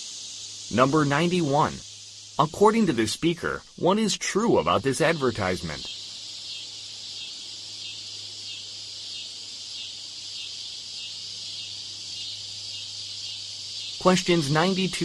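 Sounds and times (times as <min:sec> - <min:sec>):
high chirring hiss: 0:00.0 - 0:15.0.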